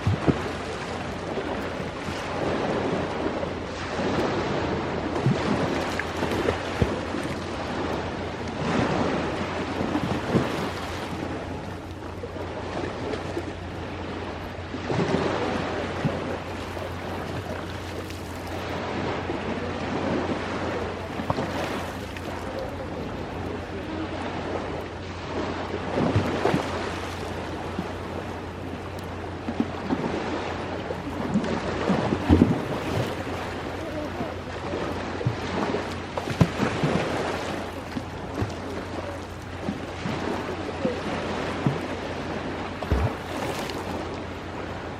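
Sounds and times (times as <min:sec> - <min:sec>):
sea waves washing ashore: 0:00.0 - 0:44.9.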